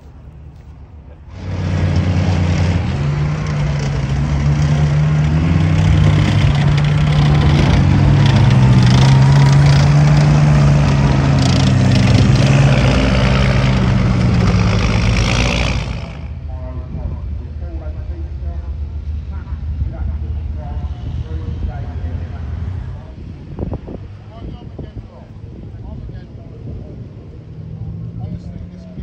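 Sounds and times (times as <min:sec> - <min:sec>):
tracked vehicles driving past: 0:00.0 - 0:29.0.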